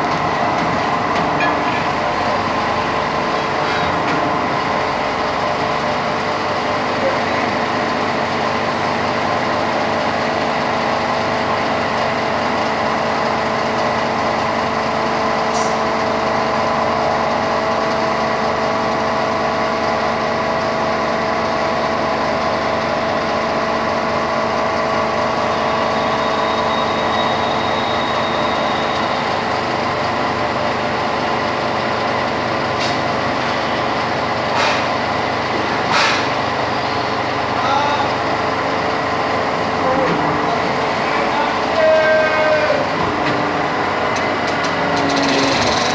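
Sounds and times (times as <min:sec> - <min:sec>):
machine motor and pump drone: 0:00.0 - 0:45.9.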